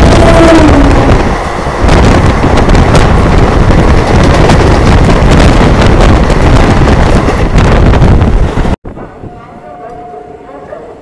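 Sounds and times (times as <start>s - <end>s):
wind buffeting microphone: 0.0s - 9.9s
train running rumble: 0.0s - 11.0s.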